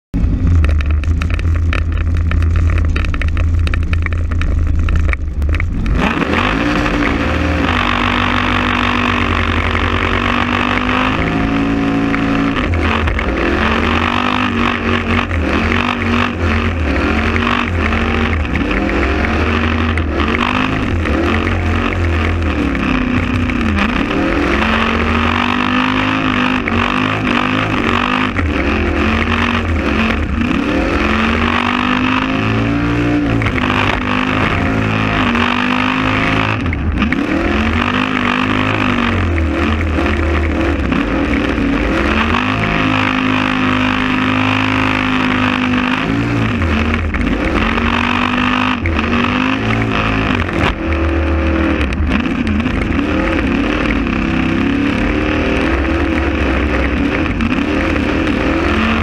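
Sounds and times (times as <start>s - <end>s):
car engine revving: 0.2s - 59.0s.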